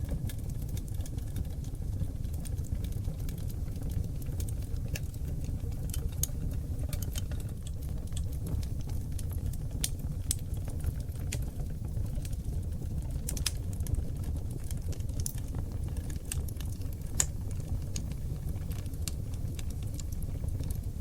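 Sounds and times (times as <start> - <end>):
low roar of flames: 0.0 - 21.0
wood crackling and popping: 0.0 - 21.0.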